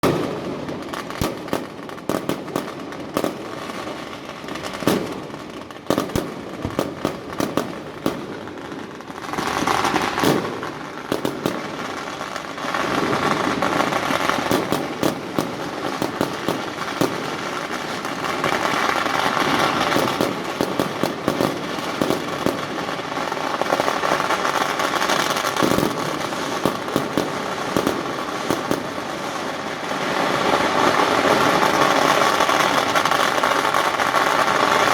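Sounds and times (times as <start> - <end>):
fireworks bangs and crackle: 0.0 - 34.9.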